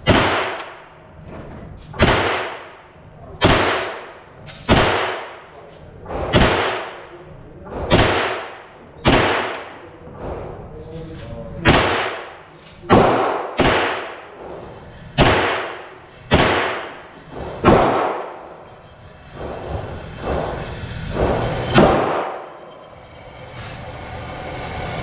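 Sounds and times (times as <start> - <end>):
gunshots echoing indoors: 0.0 - 1.3, 1.9 - 10.6, 11.6 - 18.7, 19.4 - 22.9.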